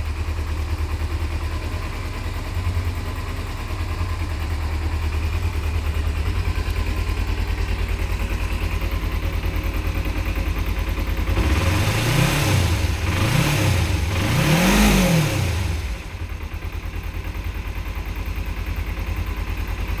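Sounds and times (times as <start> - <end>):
motorcycle engine idling and revving: 0.0 - 20.0.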